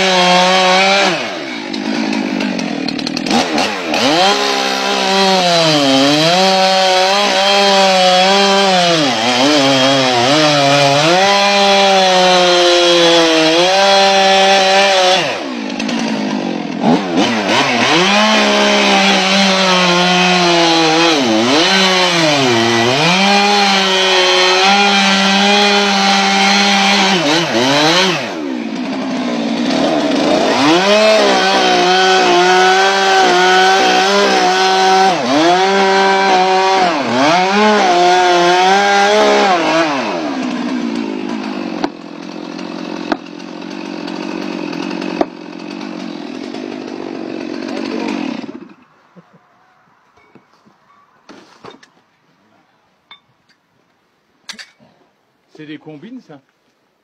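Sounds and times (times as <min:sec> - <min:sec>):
chainsaw cutting wood: 0:00.0 - 0:49.3.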